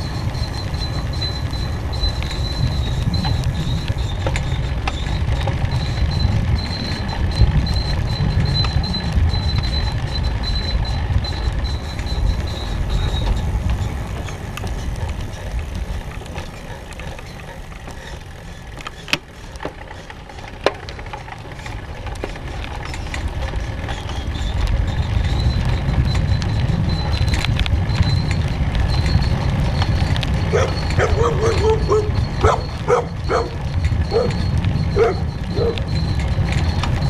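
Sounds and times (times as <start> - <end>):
wind buffeting the microphone: 0.0 - 18.4, 22.8 - 37.0
tyre rumble on asphalt: 0.0 - 37.0.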